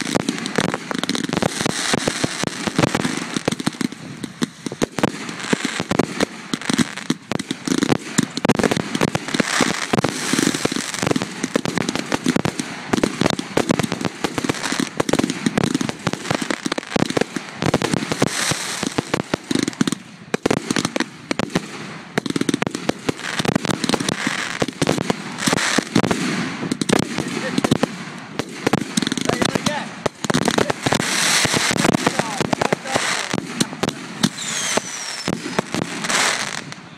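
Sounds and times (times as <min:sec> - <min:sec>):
fireworks bursting and crackling: 0:00.0 - 0:36.9.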